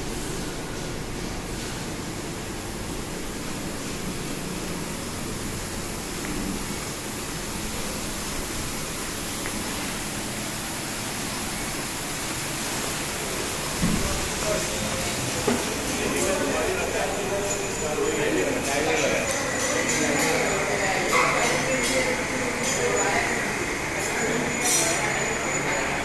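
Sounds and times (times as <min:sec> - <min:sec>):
factory floor ambient hiss: 0:00.0 - 0:26.0.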